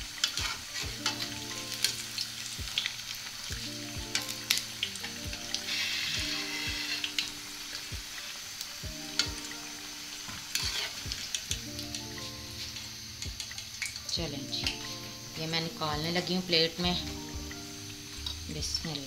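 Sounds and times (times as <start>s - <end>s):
fritters sizzling in hot oil: 0.0s - 19.0s.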